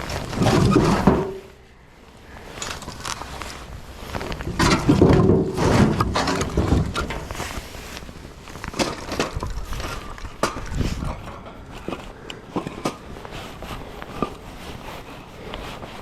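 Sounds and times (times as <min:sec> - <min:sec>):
firewood clunking and clattering: 0:00.0 - 0:01.6, 0:02.3 - 0:14.6.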